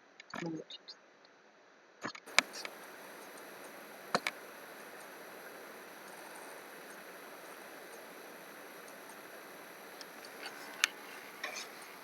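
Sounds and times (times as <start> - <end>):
microphone background hiss: 2.3 - 12.0.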